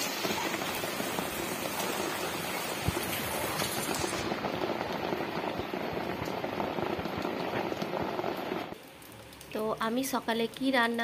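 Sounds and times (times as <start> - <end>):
heavy rain pouring: 0.0 - 10.6.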